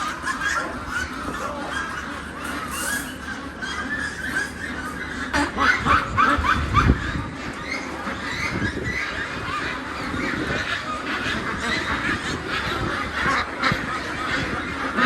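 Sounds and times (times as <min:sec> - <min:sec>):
flock of ducks quacking: 0:00.0 - 0:15.0.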